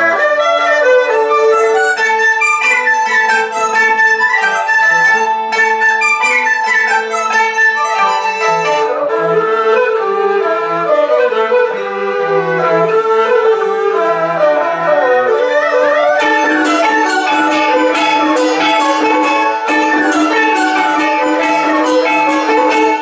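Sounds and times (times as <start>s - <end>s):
traditional orchestra playing: 0.0s - 23.0s.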